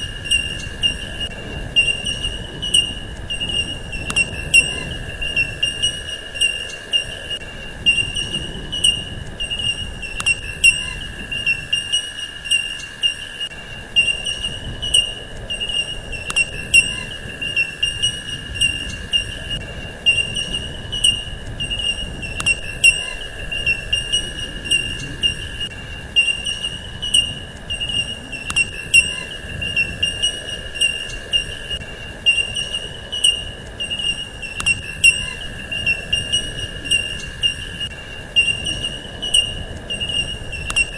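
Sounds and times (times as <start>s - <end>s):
high-pitched insect trill: 0.0s - 40.9s
low steady tone: 0.0s - 40.9s.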